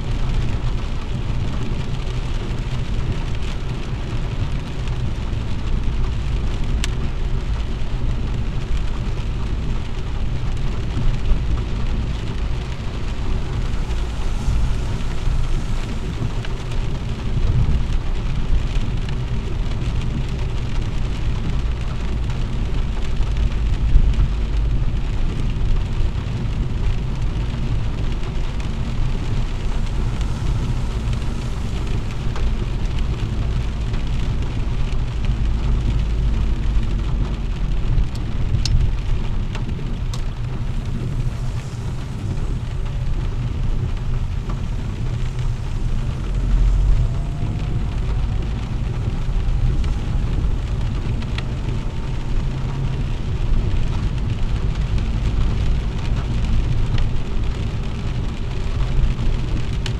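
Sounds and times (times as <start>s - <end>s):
continuous low rumble: 0.0s - 59.9s
rain on a car: 0.0s - 59.9s
tyres on wet road: 0.0s - 59.9s.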